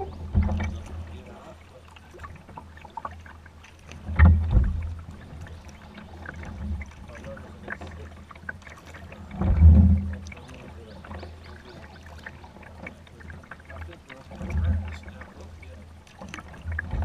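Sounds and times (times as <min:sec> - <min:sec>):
paddle strokes splashing: 0:00.0 - 0:17.0.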